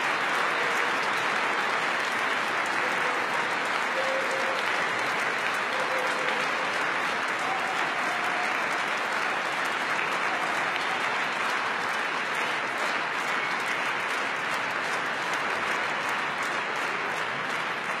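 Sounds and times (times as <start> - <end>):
large audience applauding: 0.0 - 18.0.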